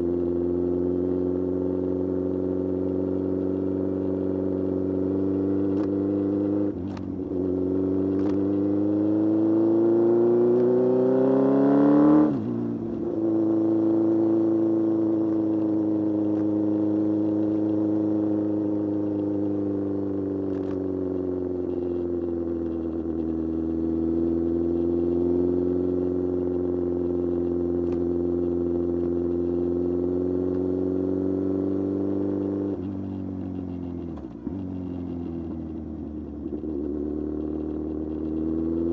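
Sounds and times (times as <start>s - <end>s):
motorcycle engine revving: 2.7s - 38.9s.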